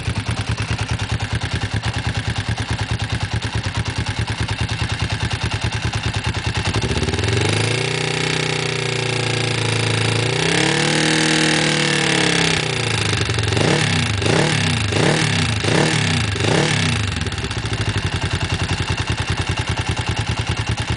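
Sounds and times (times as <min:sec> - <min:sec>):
motorcycle engine idling: 0:00.0 - 0:20.9
motorcycle engine revving: 0:00.0 - 0:20.9.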